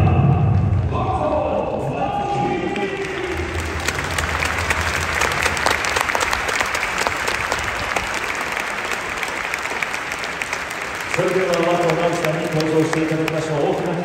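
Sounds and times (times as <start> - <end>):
stadium crowd applauding: 2.0 - 14.0.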